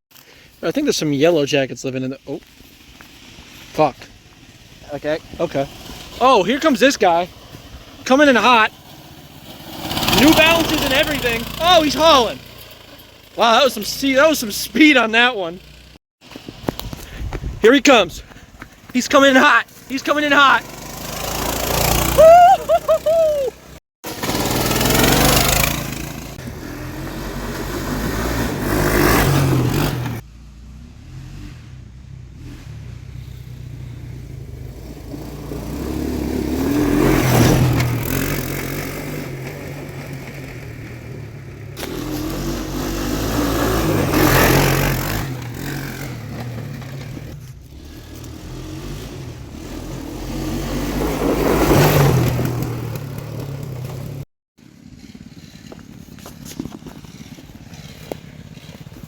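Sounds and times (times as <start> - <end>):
small engine revving: 4.2 - 17.4, 19.2 - 59.0.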